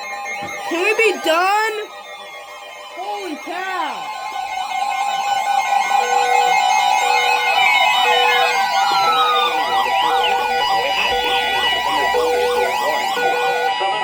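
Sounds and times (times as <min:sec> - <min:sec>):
shrill alert tone: 0:00.0 - 0:14.0
warbling siren-like tones: 0:00.0 - 0:14.0.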